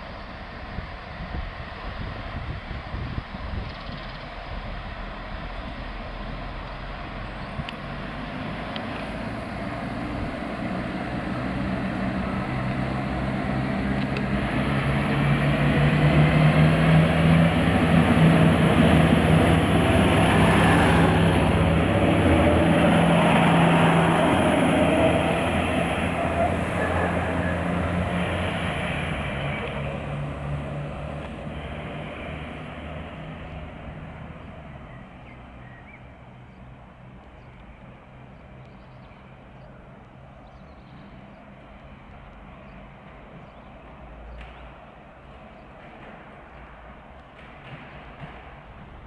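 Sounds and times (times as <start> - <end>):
diesel train engine drone: 0.0 - 49.0
train wheels rumbling: 0.0 - 49.0.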